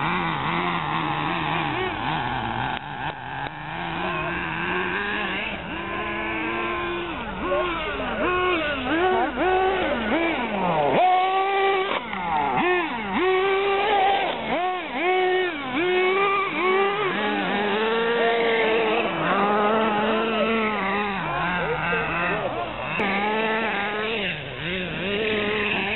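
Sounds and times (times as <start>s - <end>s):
rc buggy motors revving: 0.0s - 25.9s.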